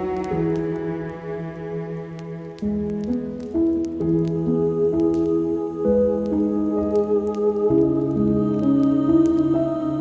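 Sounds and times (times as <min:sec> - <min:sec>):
calm instrumental music: 0:00.0 - 0:10.0
fireplace crackling: 0:00.0 - 0:10.0.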